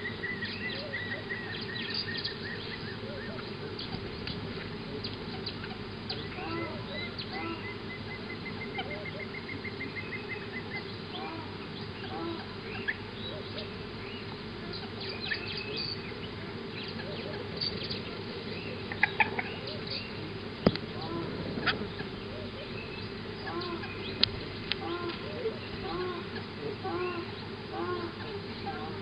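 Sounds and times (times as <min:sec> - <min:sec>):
birds chirping and calling: 0:00.0 - 0:29.0
steady low hum: 0:00.0 - 0:29.0.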